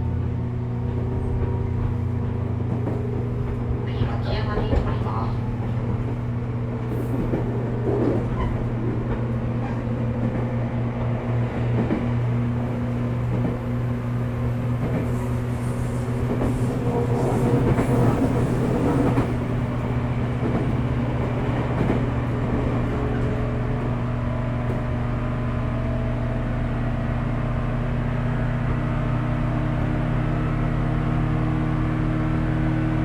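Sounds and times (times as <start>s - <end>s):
wheels rumbling on rail: 0.0s - 33.0s.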